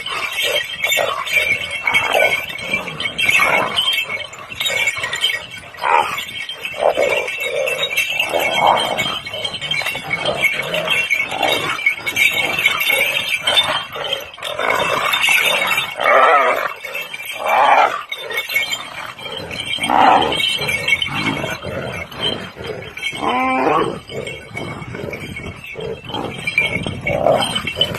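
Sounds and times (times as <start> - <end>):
dogs growling and snarling: 0.0 - 27.9.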